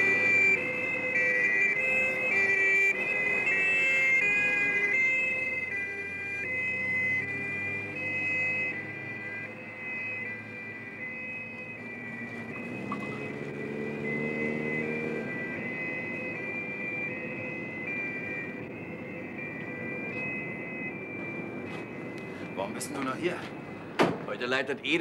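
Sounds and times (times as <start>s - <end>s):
two-tone fire engine sirens: 0.0s - 25.0s.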